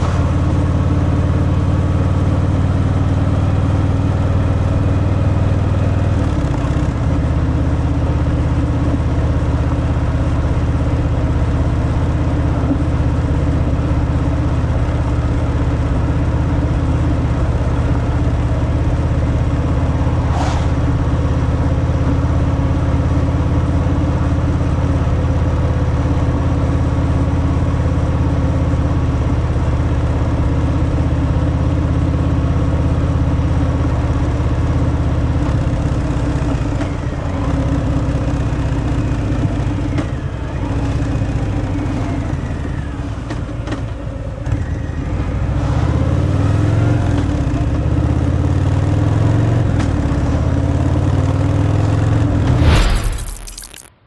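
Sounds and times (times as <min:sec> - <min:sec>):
motorcycle engine running: 0:00.0 - 0:45.5.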